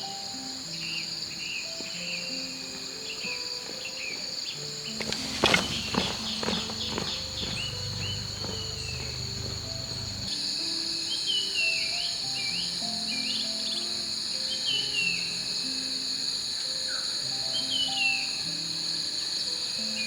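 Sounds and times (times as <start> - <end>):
birds chirping: 0.0 - 20.0
insects droning: 0.0 - 20.0
slow background music: 0.0 - 20.0.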